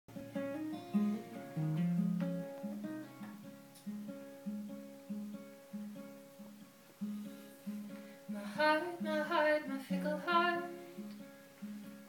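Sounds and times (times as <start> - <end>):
acoustic guitar: 0.1 - 12.0.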